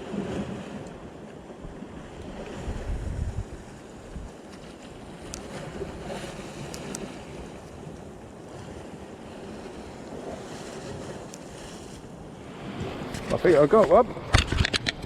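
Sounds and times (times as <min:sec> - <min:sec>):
sea washing against rocks: 0:00.0 - 0:15.0
wind buffeting microphone: 0:00.0 - 0:15.0.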